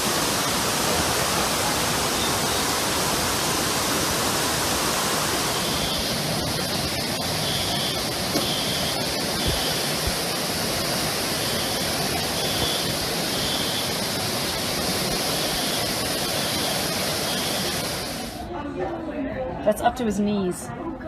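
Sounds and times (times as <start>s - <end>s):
heavy rain: 0.0s - 18.4s
floodwater rushing down a street: 0.0s - 18.5s.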